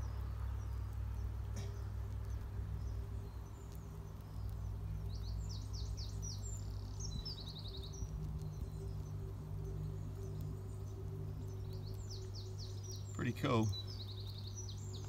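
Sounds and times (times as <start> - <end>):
low outdoor rumble: 0.0 - 15.0
songbird chirping and trilling: 0.0 - 15.0.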